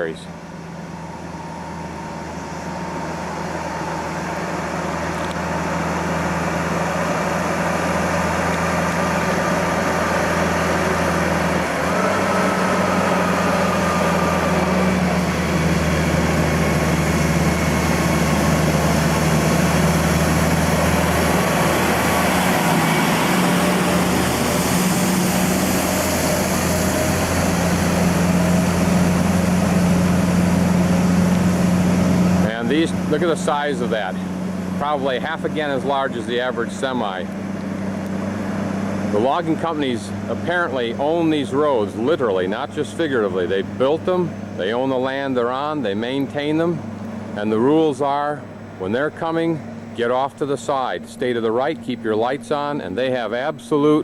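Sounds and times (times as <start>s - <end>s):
truck diesel engine passing: 0.0s - 54.0s.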